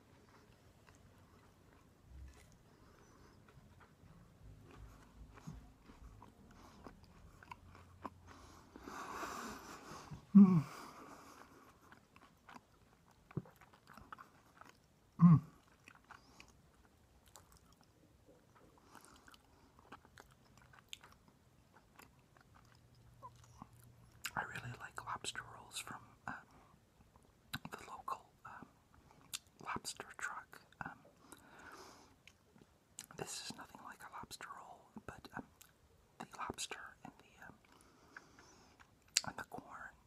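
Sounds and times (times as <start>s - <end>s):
person chewing: 0.0s - 29.6s, 37.4s - 39.9s.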